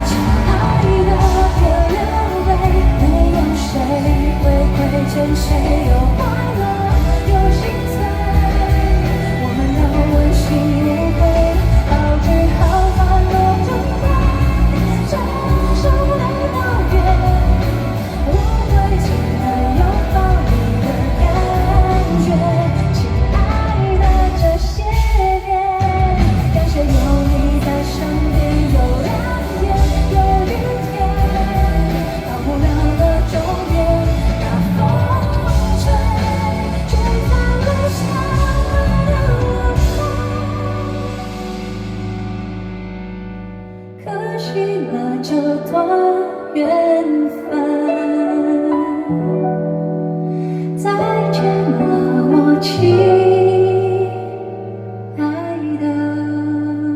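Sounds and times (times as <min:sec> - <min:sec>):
woman singing: 0:00.0 - 0:42.4, 0:43.9 - 0:56.9
live pop-rock band playing: 0:00.0 - 0:56.9.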